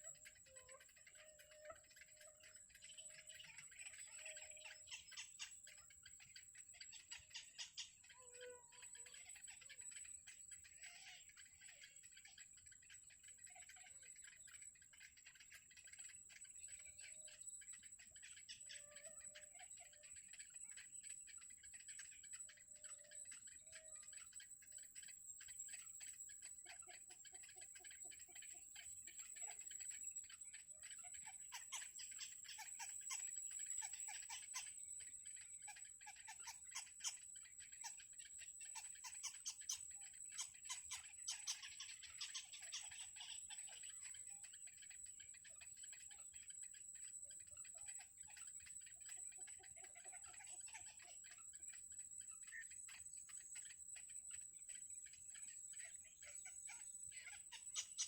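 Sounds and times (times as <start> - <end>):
high-pitched ticking and chirping: 0.0 - 58.0.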